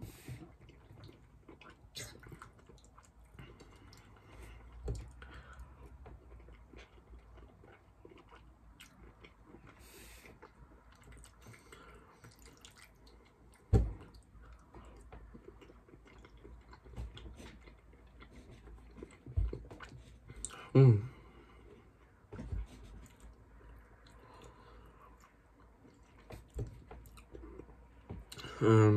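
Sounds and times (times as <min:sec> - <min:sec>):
person chewing food: 0:00.1 - 0:28.6.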